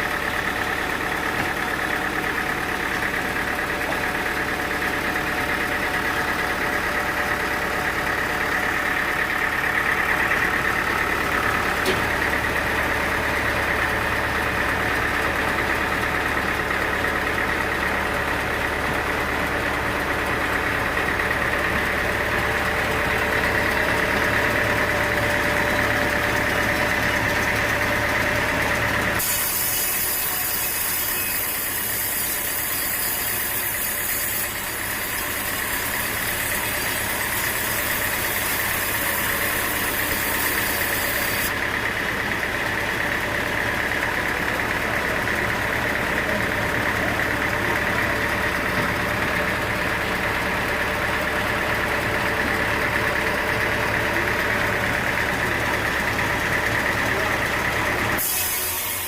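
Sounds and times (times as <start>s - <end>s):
sawmill machinery drone and whine: 0.0s - 59.0s.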